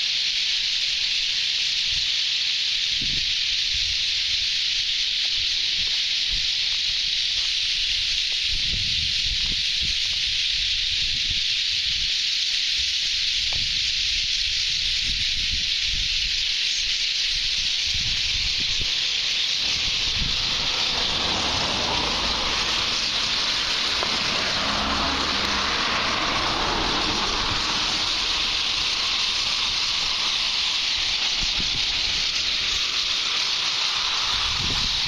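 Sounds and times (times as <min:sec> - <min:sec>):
flock of birds chattering: 0:00.0 - 0:35.0.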